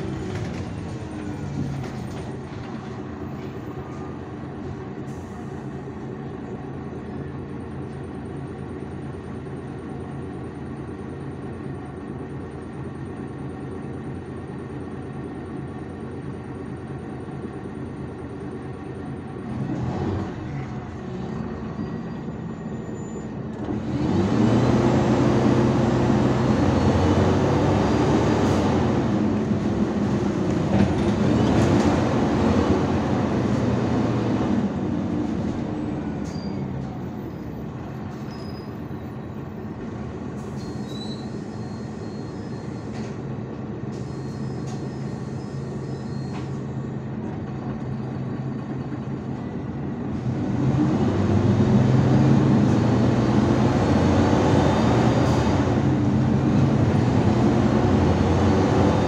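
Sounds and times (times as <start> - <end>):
bus engine accelerating: 0.0 - 59.0
bus engine idling: 0.0 - 59.0.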